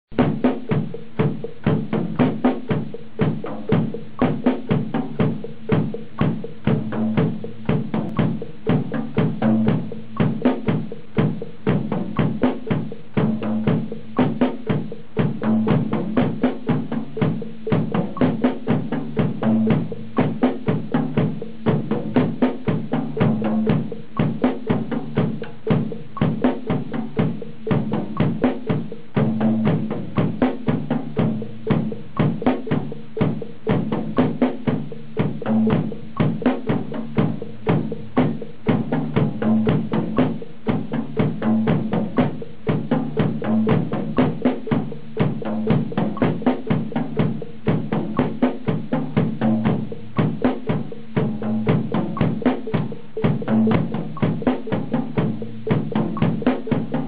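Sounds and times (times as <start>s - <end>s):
drum kit played with sticks: 0.1s - 57.0s.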